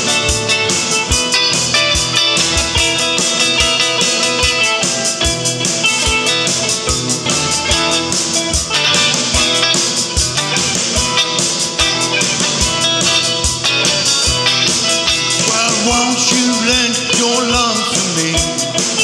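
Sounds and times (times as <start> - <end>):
acoustic band playing: 0.0 - 19.0.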